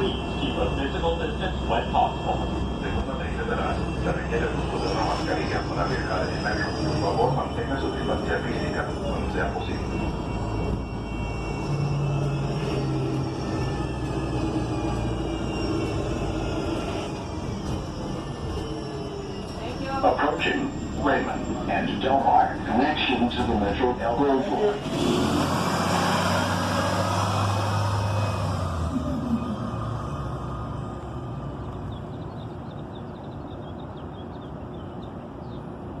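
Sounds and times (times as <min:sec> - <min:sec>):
bus engine droning: 0:00.0 - 0:36.0
road rumble: 0:00.0 - 0:36.0.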